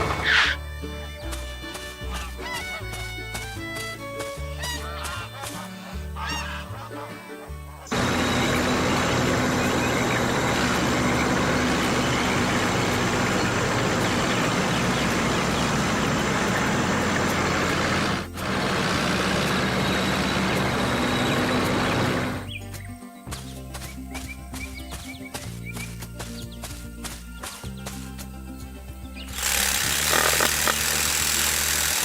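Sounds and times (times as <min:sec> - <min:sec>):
cartoon background music: 0:00.0 - 0:18.4, 0:19.4 - 0:30.3.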